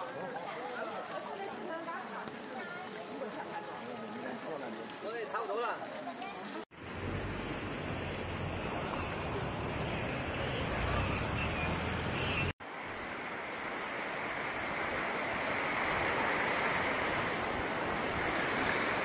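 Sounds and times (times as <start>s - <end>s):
rushing floodwater: 0.0s - 19.0s.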